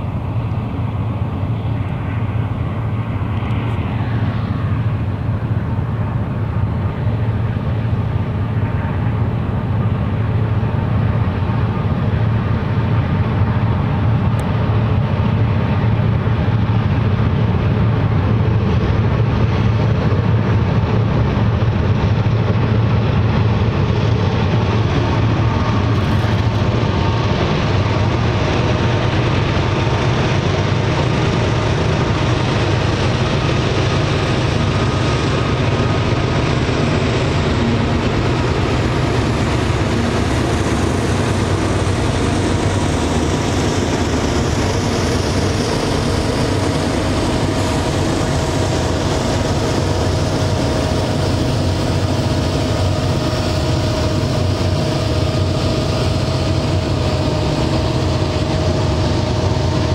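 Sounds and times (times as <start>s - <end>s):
diesel locomotives droning: 0.0s - 59.9s.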